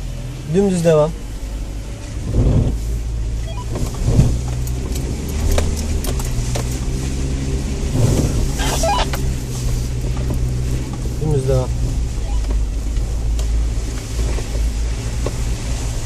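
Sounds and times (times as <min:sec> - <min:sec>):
car engine running: 0:00.0 - 0:16.0
thumps and rattles of car: 0:02.0 - 0:16.0.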